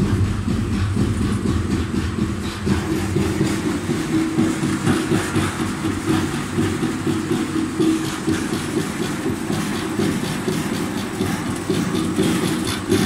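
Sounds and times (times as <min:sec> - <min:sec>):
pellet mill humming: 0:00.0 - 0:13.0.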